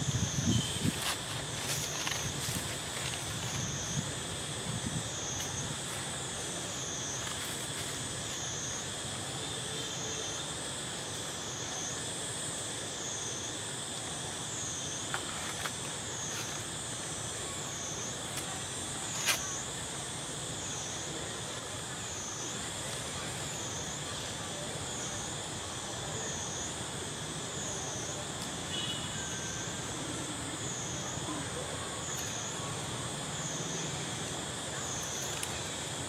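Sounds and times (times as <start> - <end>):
insect chorus droning: 0.0 - 36.0.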